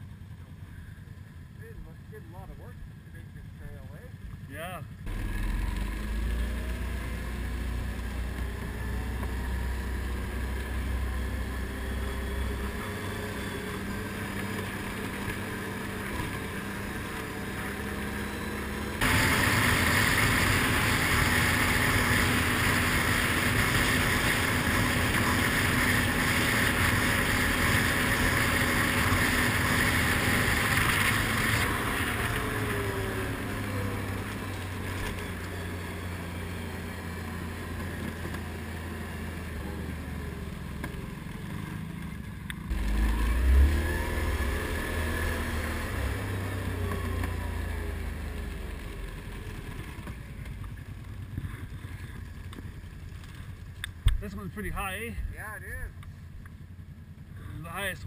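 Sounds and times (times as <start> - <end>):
quad engine running: 0.0 - 58.0
wind and tyre noise: 4.1 - 58.0.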